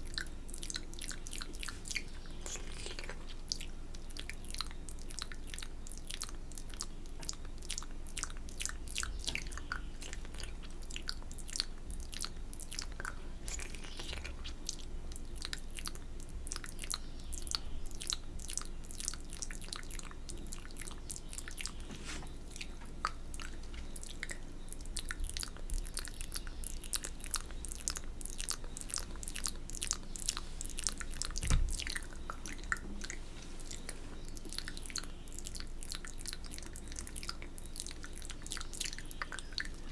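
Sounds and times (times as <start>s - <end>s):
wet mouth sounds: 0.0s - 39.9s.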